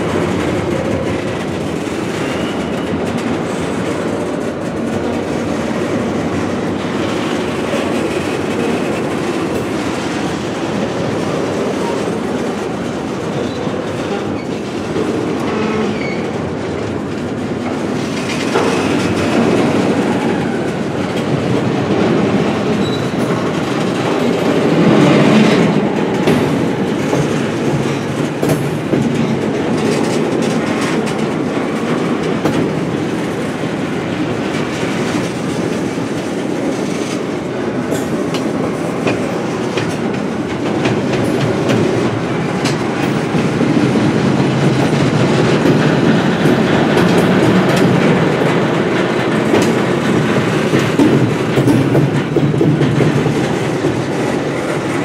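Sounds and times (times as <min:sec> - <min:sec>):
train wheels rumbling on rail: 0:00.0 - 0:55.0
wheels clicking over rail joints: 0:00.0 - 0:55.0.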